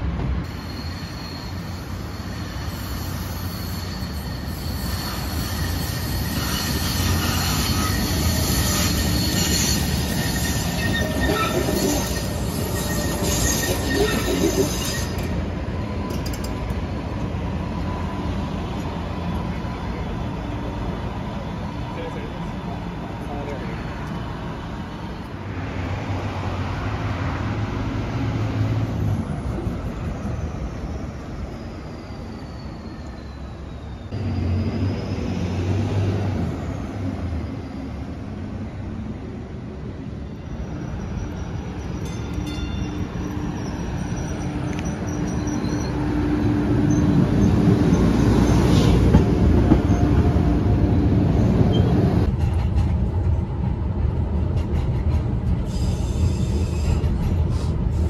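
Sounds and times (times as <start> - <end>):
bus: 0.0 - 4.5, 13.6 - 58.0
inside moving light-rail car: 0.0 - 58.0
light-rail train running: 0.0 - 58.0
street traffic: 0.0 - 58.0.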